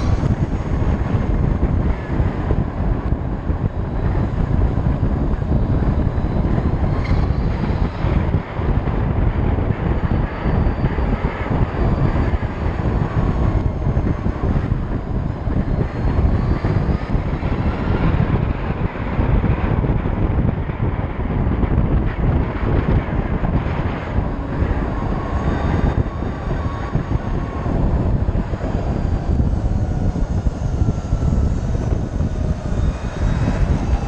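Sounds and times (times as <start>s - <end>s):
electric motor whine: 0.0s - 34.0s
wind buffeting microphone: 0.0s - 34.0s.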